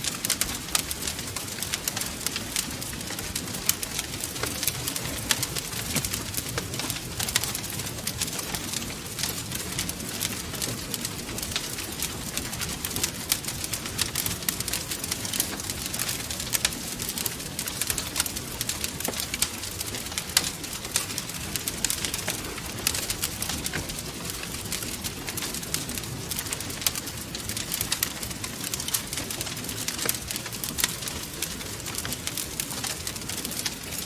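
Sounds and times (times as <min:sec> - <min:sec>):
low rumble of flames: 0:00.0 - 0:34.0
wood fire crackling: 0:00.0 - 0:34.0.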